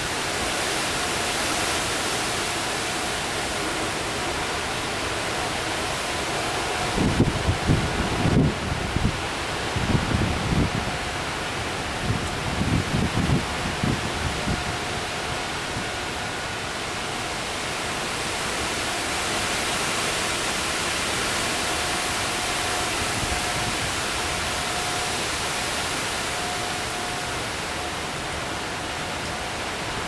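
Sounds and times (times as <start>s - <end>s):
distant tornado siren: 0.0s - 30.0s
heavy rain: 0.0s - 30.0s
wind: 0.0s - 30.0s.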